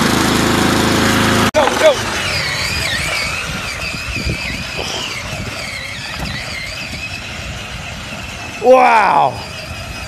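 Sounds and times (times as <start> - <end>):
toy truck motor whine: 1.3 - 10.0.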